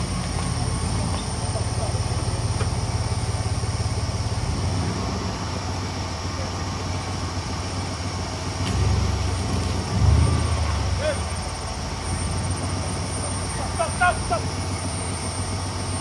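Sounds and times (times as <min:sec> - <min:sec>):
engine rumbling and revving: 0:00.0 - 0:16.0.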